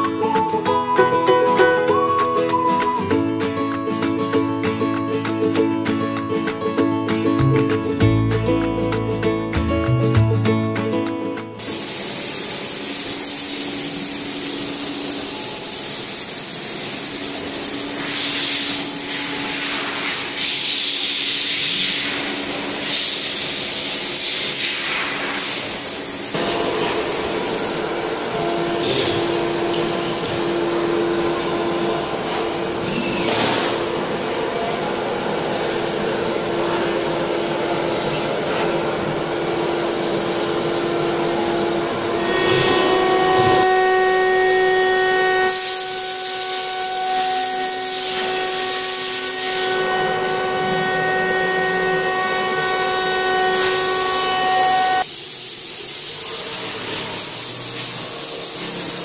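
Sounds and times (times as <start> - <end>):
router spindle whine and hiss: 11.6 - 59.0.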